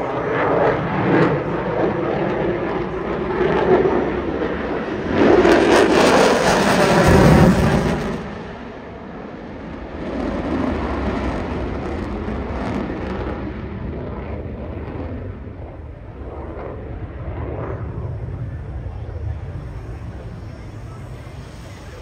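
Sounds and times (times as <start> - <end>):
distant jet flying away: 0.0 - 22.0.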